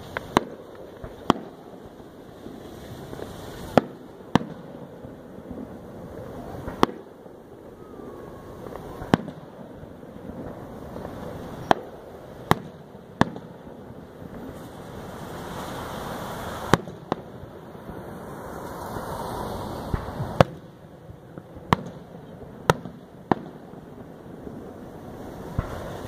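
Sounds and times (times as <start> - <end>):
fireworks bursting with sharp bangs: 0.0 - 26.0
steady background hiss: 0.0 - 26.0.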